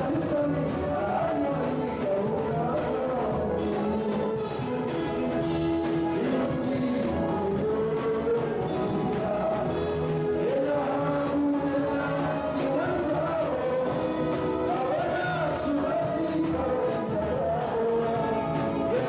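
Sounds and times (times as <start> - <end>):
drums with steady beat: 0.0 - 19.0
man singing into microphone: 0.0 - 19.0.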